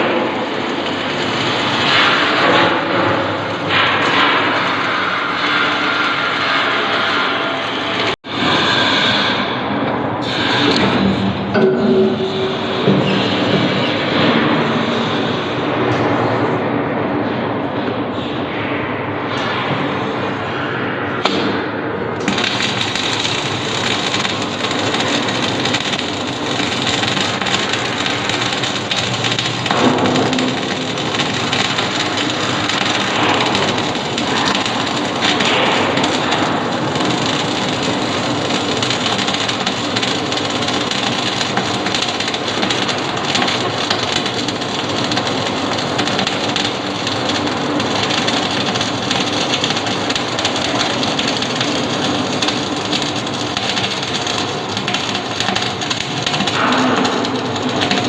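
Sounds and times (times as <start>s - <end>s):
welding arc crackle: 0.0s - 9.4s, 10.2s - 15.6s, 22.2s - 58.0s.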